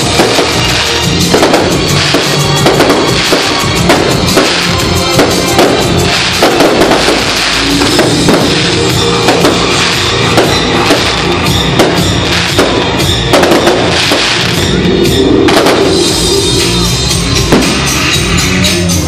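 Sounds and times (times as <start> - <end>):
fireworks bangs: 0.0 - 18.2
fireworks crackling: 0.0 - 19.0
loud music with steady beat: 0.0 - 19.0.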